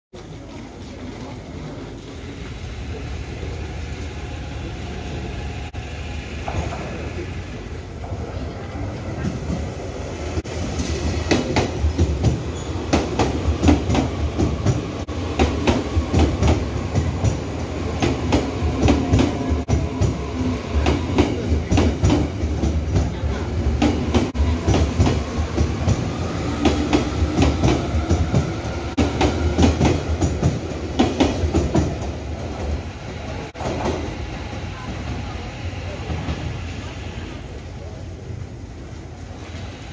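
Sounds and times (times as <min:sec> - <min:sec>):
train rumble: 0:00.2 - 0:39.9.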